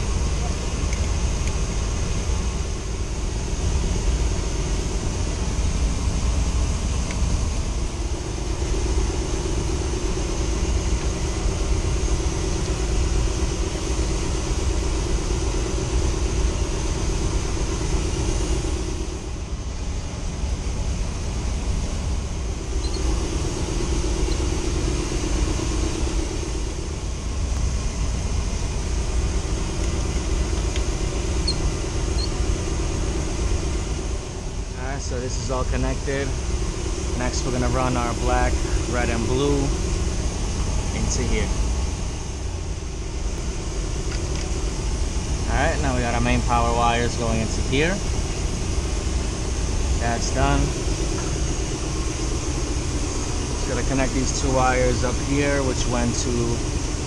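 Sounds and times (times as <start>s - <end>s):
low rumble of machinery: 0.0s - 57.0s.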